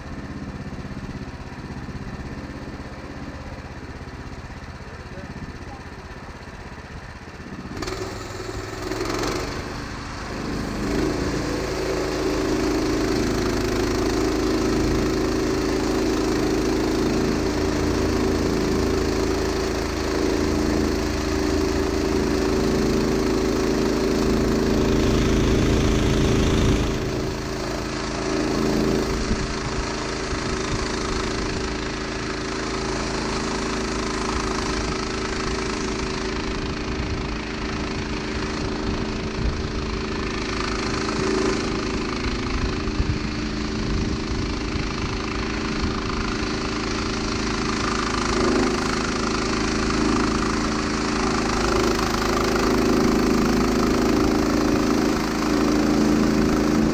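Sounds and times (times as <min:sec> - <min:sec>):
sawmill gas engine running: 0:00.0 - 0:56.9.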